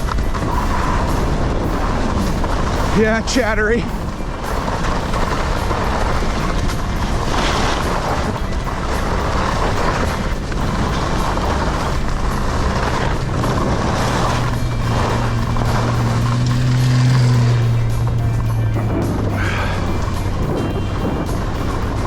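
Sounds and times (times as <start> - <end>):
skis scraping over snow: 0.0 - 22.0.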